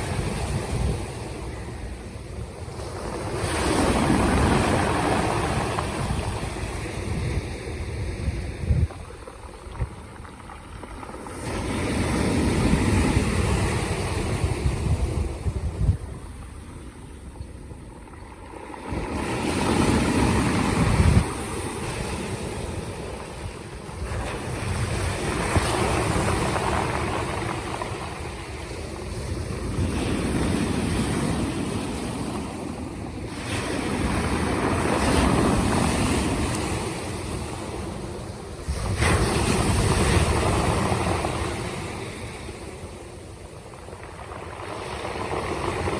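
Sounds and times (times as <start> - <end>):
waves washing onto shore: 0.0 - 45.9.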